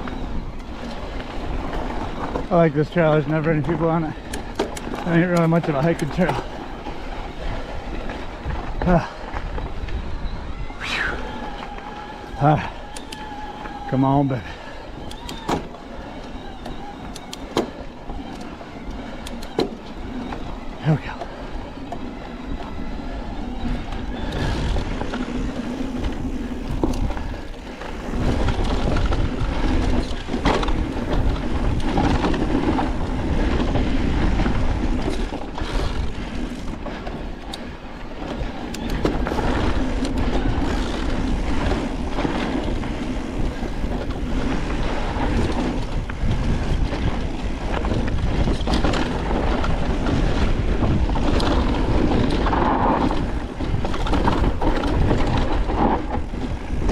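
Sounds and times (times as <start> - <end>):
tyres rumbling over dirt: 0.0 - 56.9.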